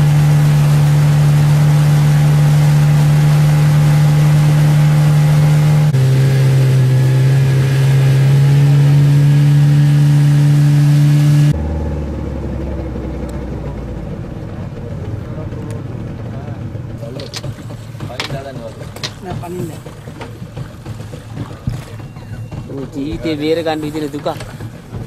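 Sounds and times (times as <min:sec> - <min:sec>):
low hum: 0:00.0 - 0:22.9
motorboat engine running: 0:00.0 - 0:25.0.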